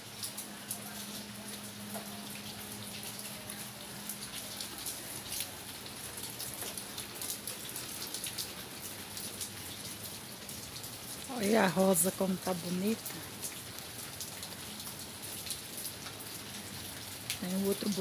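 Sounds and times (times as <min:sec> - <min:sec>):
light rain pattering: 0:00.0 - 0:18.0.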